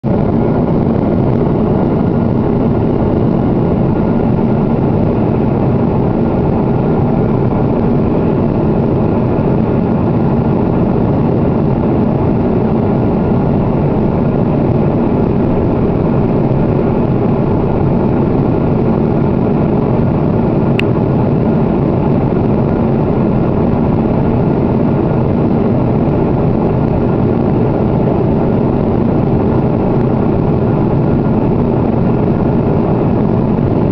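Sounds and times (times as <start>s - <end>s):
airliner cabin engine noise: 0.0s - 33.9s.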